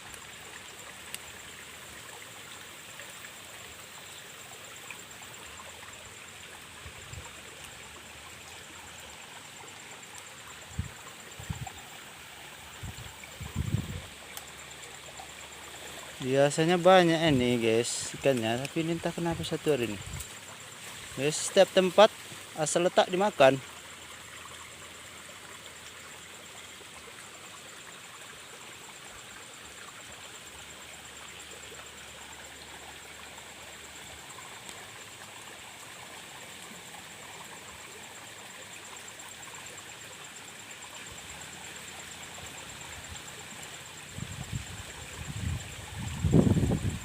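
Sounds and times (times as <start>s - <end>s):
rush of flowing water: 0.0s - 47.0s.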